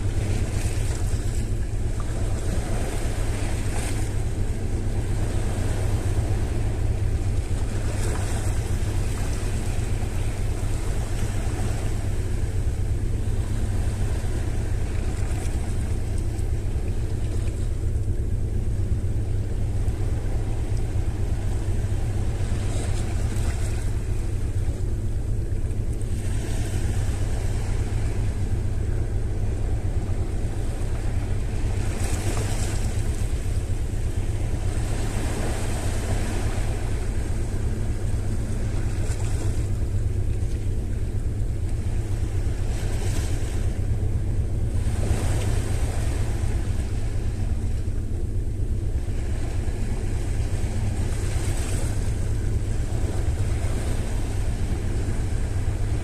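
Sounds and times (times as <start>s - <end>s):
sea waves: 0.0s - 56.0s
wind rumble on microphone: 0.0s - 56.0s.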